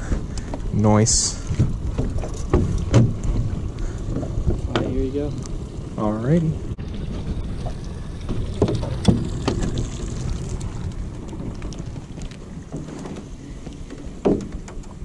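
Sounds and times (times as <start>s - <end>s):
rumble of wind and water: 0.0s - 15.0s.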